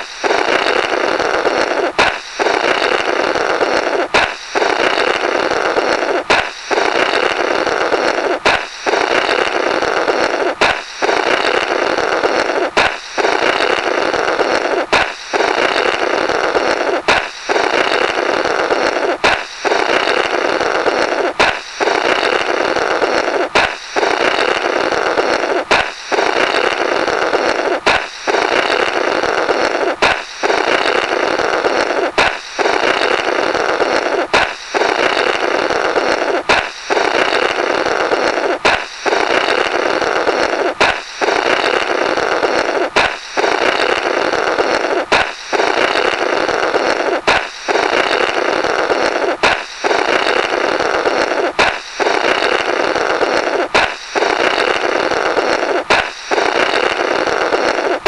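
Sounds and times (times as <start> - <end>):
balloon popping: 0.0 - 58.0
rubbery buzzing blow: 0.0 - 58.0.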